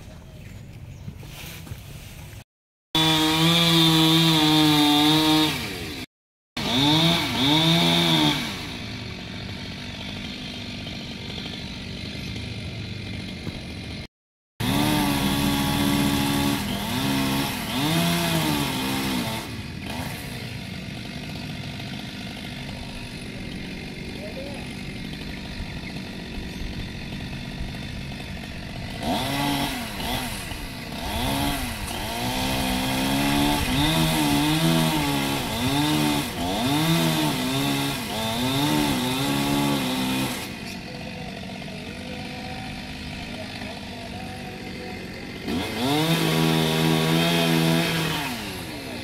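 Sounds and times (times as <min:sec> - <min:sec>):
chainsaw revving and idling: 0:03.0 - 0:49.0.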